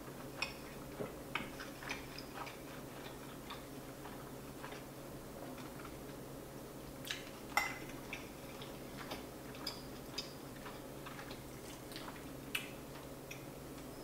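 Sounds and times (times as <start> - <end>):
soft chewing: 0.0 - 6.3, 6.9 - 14.0.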